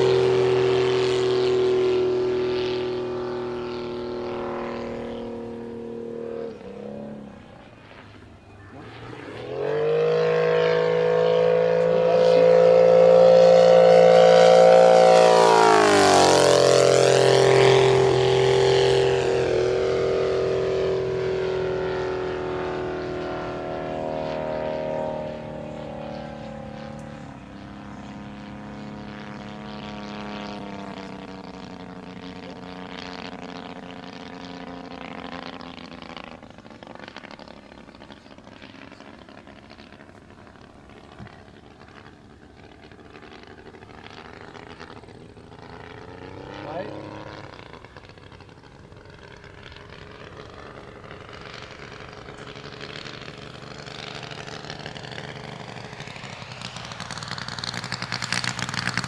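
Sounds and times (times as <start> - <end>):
model plane engine flying past: 0.0 - 59.0.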